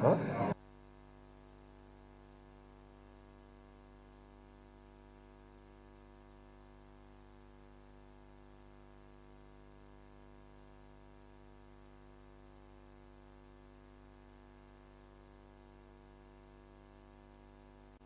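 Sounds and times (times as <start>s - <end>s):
faint electrical hum with hiss: 0.0s - 18.0s.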